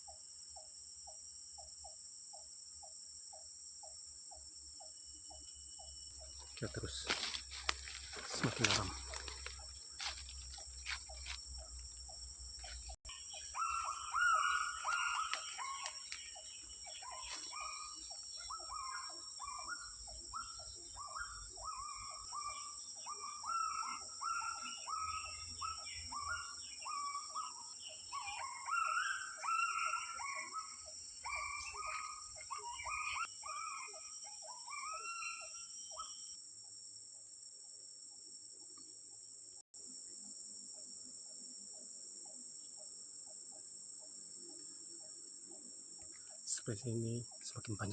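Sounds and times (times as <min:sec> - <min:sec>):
bird chirping: 0:00.0 - 0:36.4, 0:42.2 - 0:47.9
insects droning: 0:00.0 - 0:47.9.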